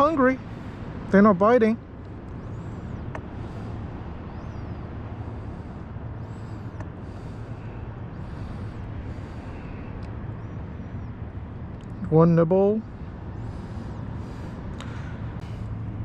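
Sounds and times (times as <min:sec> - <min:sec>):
low wind rumble on microphone: 0:00.0 - 0:16.0.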